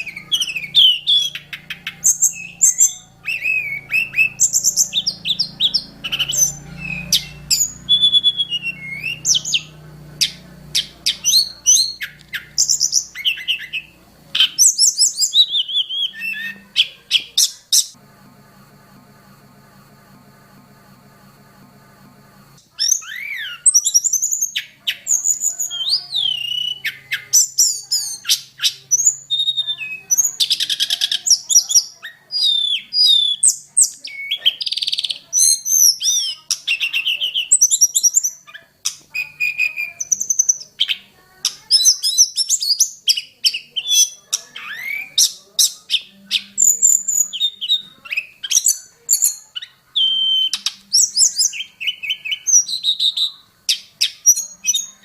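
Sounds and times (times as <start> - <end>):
bird singing whistles and trills: 0.0 - 17.9, 22.7 - 55.0.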